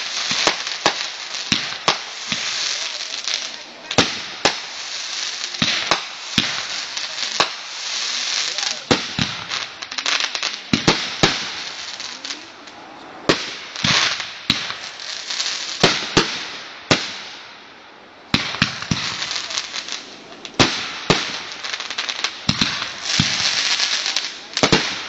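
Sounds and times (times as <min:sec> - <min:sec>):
firecrackers banging and crackling: 0:00.0 - 0:25.0.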